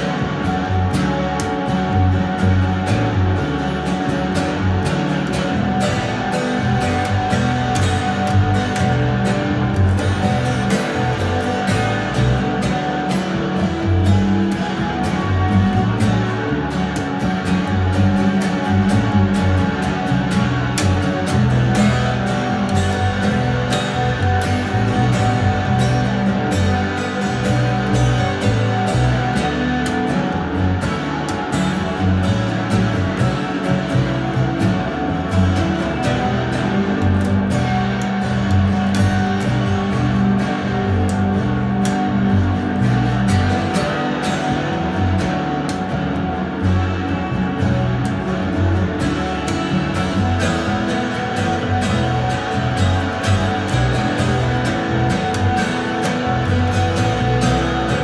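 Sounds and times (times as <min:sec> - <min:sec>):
double bass low notes: 0:00.0 - 0:58.0
plucked acoustic guitar: 0:00.0 - 0:58.0.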